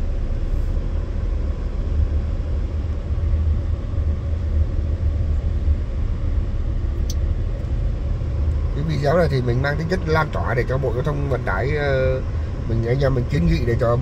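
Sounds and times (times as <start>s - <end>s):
vehicle engine rumble inside cabin: 0.0s - 14.0s.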